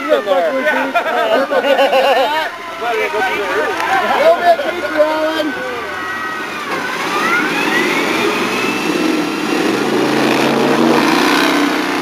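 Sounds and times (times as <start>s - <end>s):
tires spinning in mud: 1.6s - 12.0s
truck engine revving: 2.0s - 12.0s.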